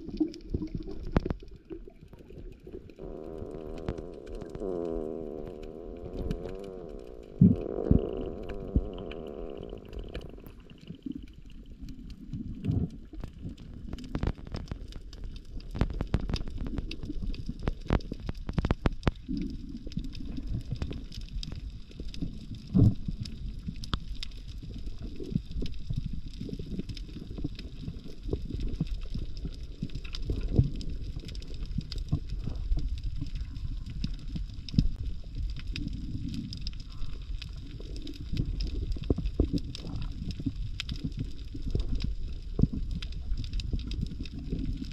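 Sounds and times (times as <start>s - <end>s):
sharp clicks and crackles: 0.0s - 44.9s
underwater rumble of moving water: 0.0s - 44.9s.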